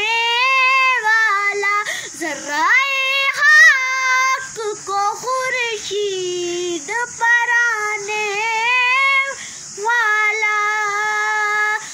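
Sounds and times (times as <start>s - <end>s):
boy singing unaccompanied: 0.0s - 11.9s.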